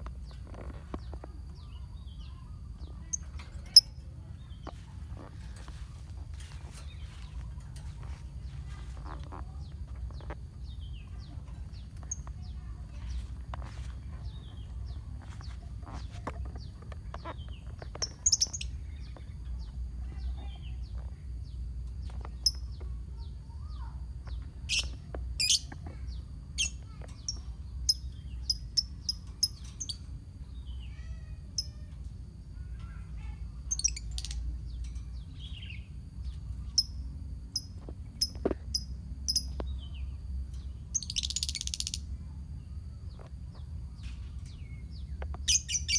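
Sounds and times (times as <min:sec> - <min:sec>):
lovebirds chirping: 0:00.0 - 0:31.9, 0:32.6 - 0:45.9
steady low hum: 0:00.0 - 0:45.9.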